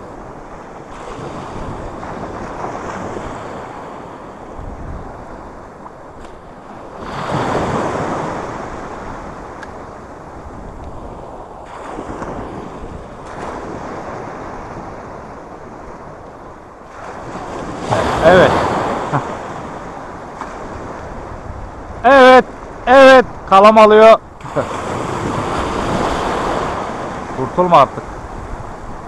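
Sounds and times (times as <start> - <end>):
wind buffeting microphone: 0.0 - 23.5, 24.2 - 29.0
small waves lapping: 0.0 - 29.0.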